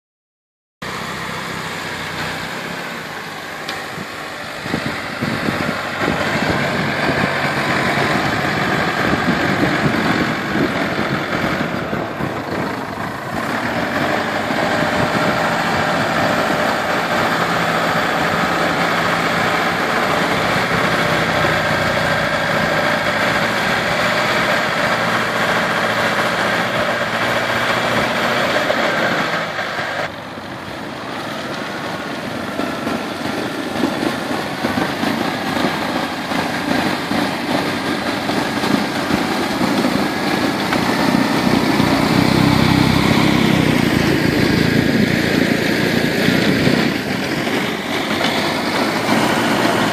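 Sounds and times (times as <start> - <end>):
tractor diesel engine under load: 0.8 - 49.9
snowblower throwing snow: 0.9 - 49.9.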